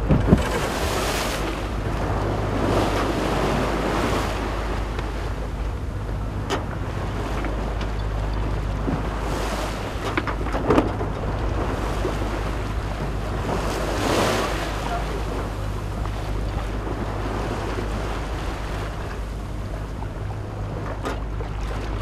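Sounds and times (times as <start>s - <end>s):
choppy sea and breaking wash: 0.0s - 22.0s
steady low hum: 0.0s - 22.0s
wind buffeting microphone: 0.0s - 22.0s.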